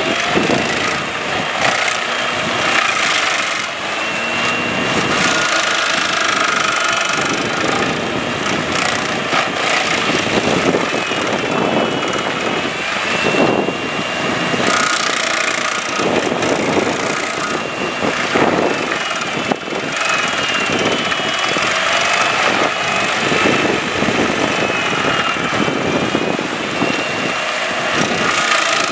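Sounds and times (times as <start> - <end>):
stump grinder grinding wood: 0.0 - 28.9.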